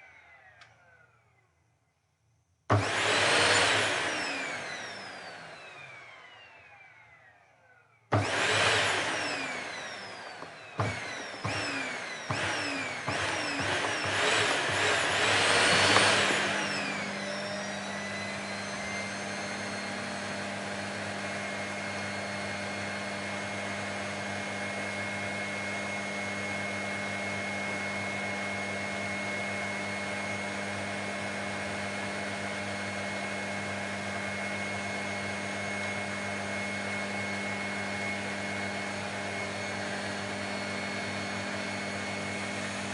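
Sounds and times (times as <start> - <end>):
vacuum cleaner motor running: 0.0 - 1.2, 2.7 - 42.9.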